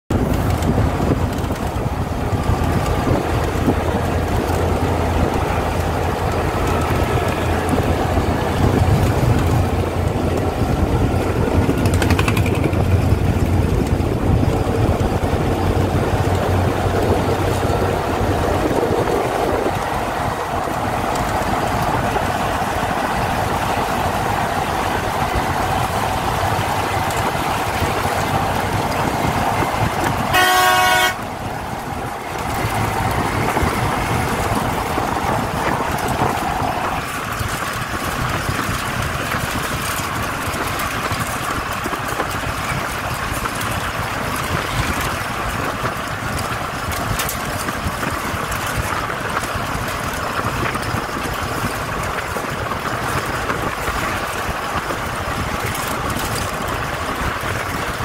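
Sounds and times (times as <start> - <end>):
vehicle tyre and engine noise: 0.0 - 58.0
low engine drone: 0.1 - 58.0.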